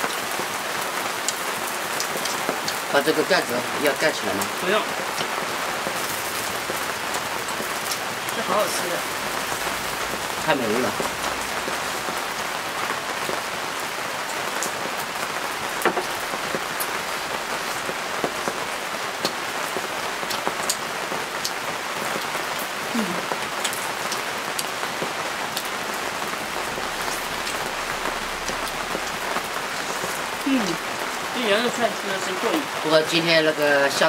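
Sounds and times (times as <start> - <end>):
grill sizzling and crackling: 0.0 - 34.0.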